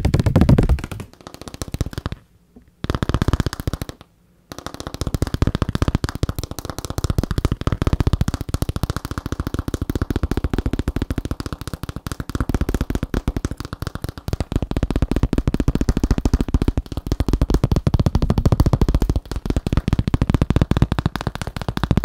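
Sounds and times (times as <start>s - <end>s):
fingertips tapping plastic sheet: 0.0s - 22.0s.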